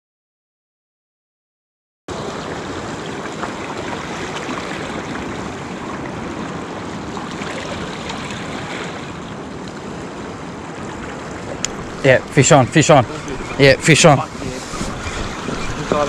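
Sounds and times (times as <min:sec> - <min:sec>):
waves washing against rocks: 0:02.1 - 0:16.0.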